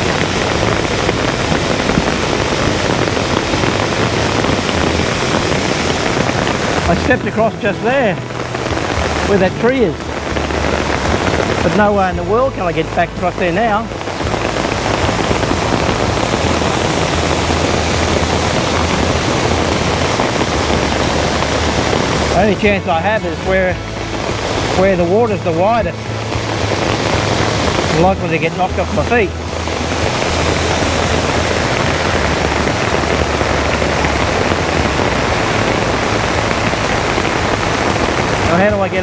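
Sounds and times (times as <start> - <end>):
creek torrent rushing: 0.0 - 39.0.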